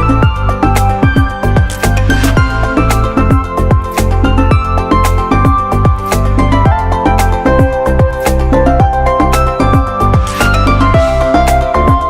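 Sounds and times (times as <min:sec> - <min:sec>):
electronic music with bass hits: 0:00.0 - 0:12.0.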